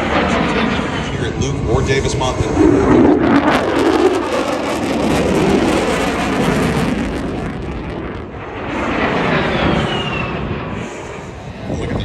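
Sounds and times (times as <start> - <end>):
low jet aircraft flyover roar: 0.0 - 12.0.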